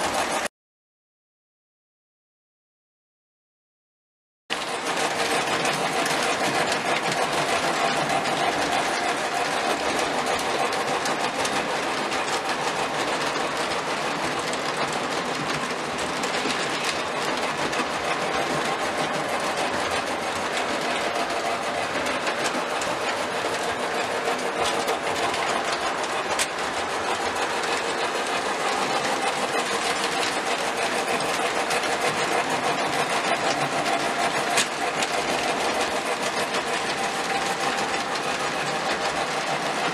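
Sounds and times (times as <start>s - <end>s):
electric locomotive motors whirring: 4.5s - 39.9s
metal wheels rattling on rails: 4.5s - 39.9s.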